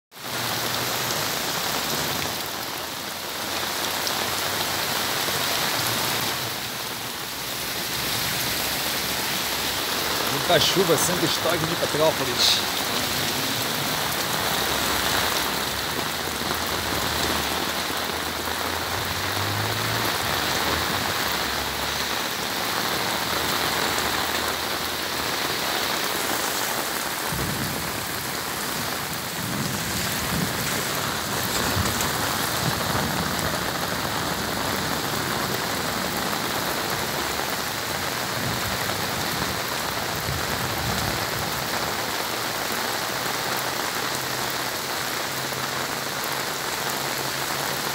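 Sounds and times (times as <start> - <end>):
heavy rain pouring: 0.1 - 47.9.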